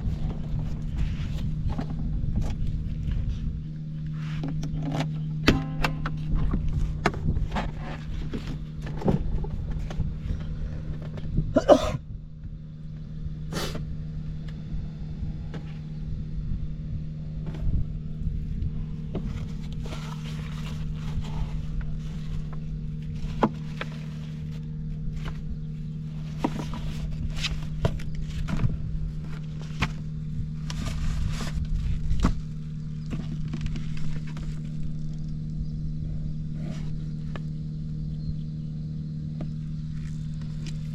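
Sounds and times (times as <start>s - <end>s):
scooter engine running: 0.0s - 40.9s.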